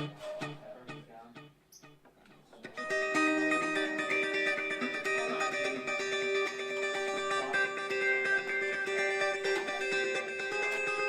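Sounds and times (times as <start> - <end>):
guitar plucked notes: 0.0 - 11.0.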